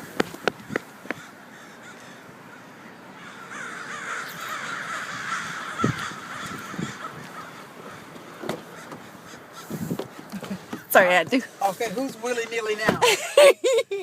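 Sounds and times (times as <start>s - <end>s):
flock of birds calling: 0.0s - 13.2s.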